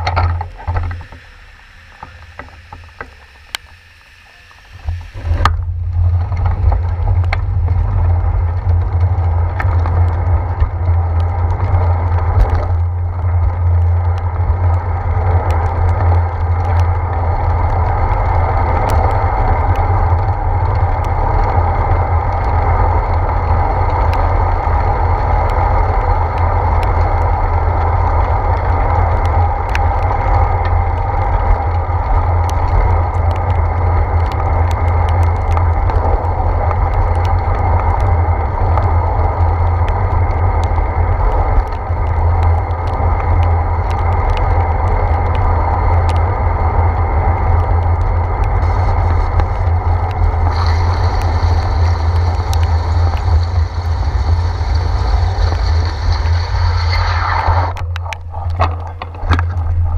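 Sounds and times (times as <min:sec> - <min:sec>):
bicycle tyres on wet road: 0:00.0 - 0:59.9
wind rumble: 0:00.0 - 0:59.9
light ticks: 0:06.3 - 0:21.6, 0:22.2 - 0:56.4.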